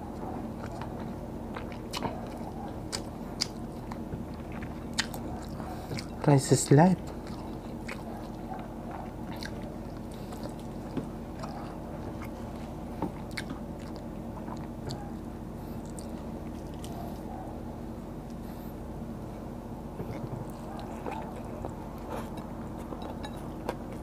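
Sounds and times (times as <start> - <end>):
steady low hum: 0.0 - 24.0
chewing and mouth sounds: 0.1 - 6.4, 7.0 - 17.5, 20.0 - 24.0.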